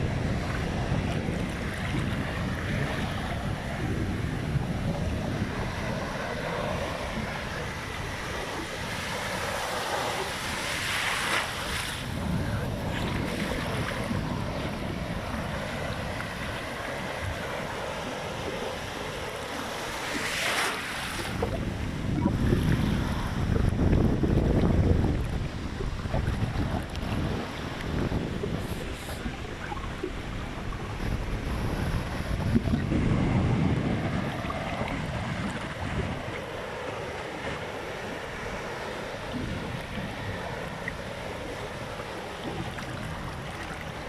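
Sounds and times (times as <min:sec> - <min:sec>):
sea waves breaking: 0:00.0 - 0:44.0
wind buffeting microphone: 0:00.0 - 0:44.0.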